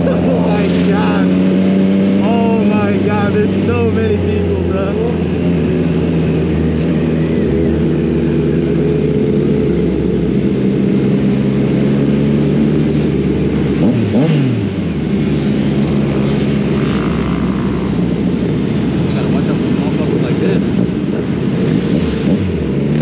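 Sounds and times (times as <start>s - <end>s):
motorcycle engine revving: 0.0s - 23.0s
motorcycle engines running: 0.0s - 23.0s.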